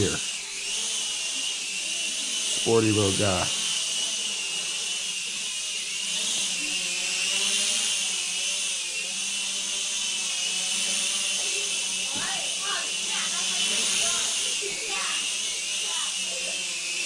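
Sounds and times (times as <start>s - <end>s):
quadcopter propeller whine: 0.0s - 17.0s.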